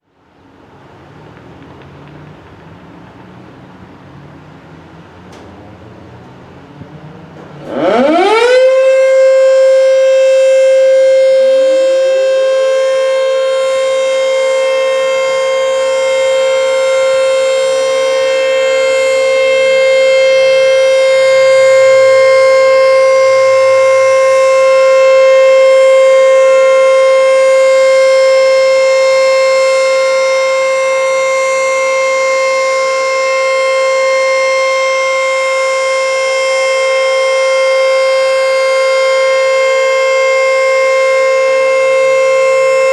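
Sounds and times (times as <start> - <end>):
second lower siren tone: 7.6 - 42.9
warning siren steady tone: 7.6 - 42.9.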